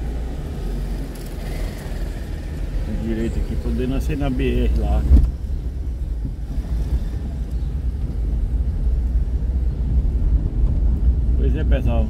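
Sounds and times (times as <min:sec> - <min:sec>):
car driving slowly from inside: 0:00.0 - 0:12.0.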